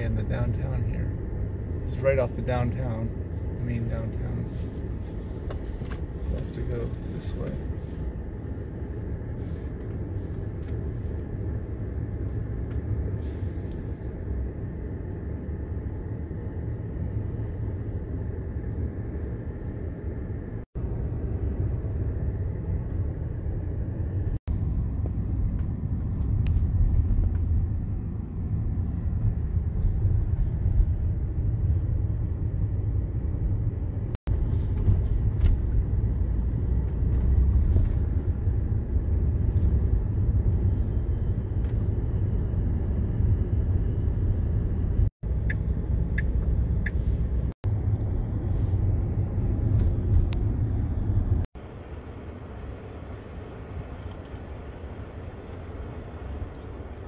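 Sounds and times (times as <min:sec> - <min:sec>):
road and tyre noise rumble: 0:00.0 - 0:57.0.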